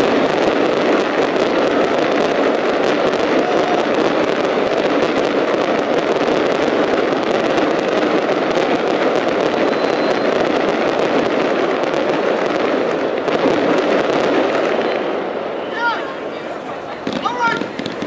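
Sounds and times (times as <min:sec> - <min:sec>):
fireworks bursting: 0:00.0 - 0:18.0
fireworks crackling: 0:00.0 - 0:18.0.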